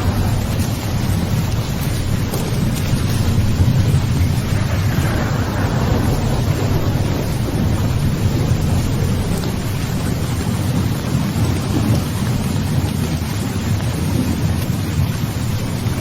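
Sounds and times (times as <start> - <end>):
low rumble of thunder: 0.0 - 16.0
steady rain: 0.0 - 16.0.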